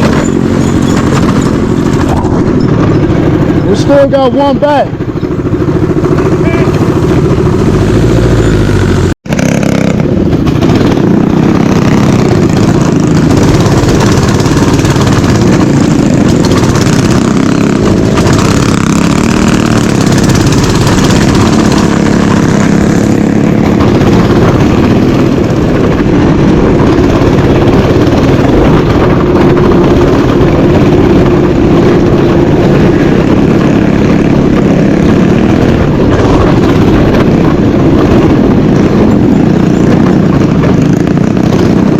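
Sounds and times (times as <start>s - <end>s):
mini bike engine running: 0.0s - 41.9s.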